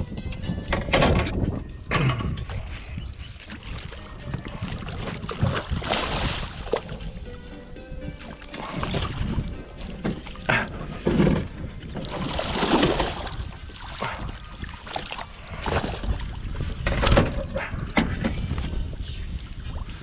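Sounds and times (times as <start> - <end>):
knocks and scrapes in boat: 0.6 - 7.2, 8.4 - 18.9.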